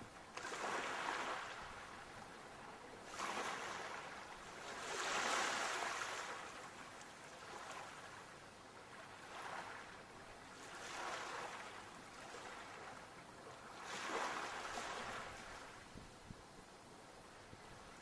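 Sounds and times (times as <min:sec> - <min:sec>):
sea waves washing in: 0:00.0 - 0:02.3, 0:02.9 - 0:08.3, 0:08.9 - 0:16.0.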